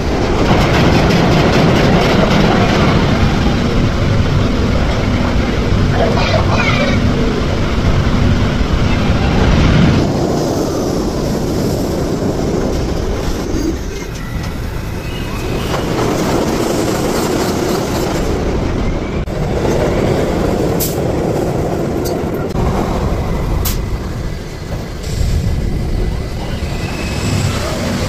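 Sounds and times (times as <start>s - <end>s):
subway train wheels rumbling: 0.0s - 28.0s.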